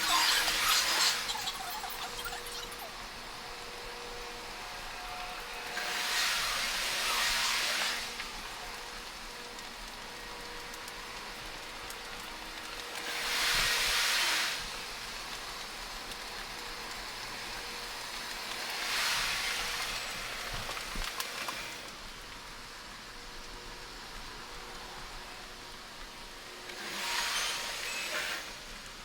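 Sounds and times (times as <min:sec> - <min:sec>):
rushing hiss: 0:00.0 - 0:21.9, 0:26.3 - 0:29.0.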